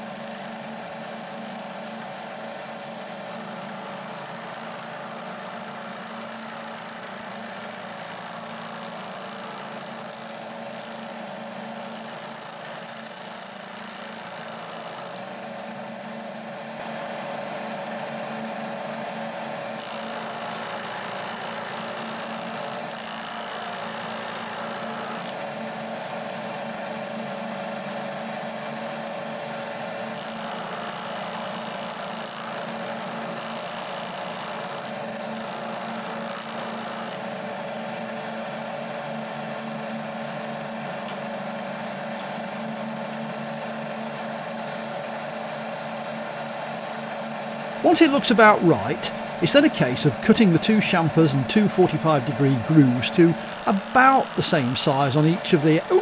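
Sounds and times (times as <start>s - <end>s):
milling machine hum and whine: 0.0s - 56.0s.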